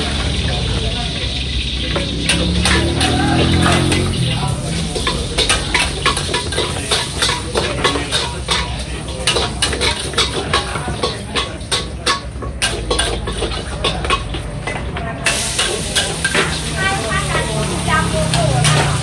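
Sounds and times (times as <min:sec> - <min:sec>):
gas burner low rumble: 0:00.0 - 0:19.0
metal ladle clanking on a wok: 0:01.4 - 0:19.0.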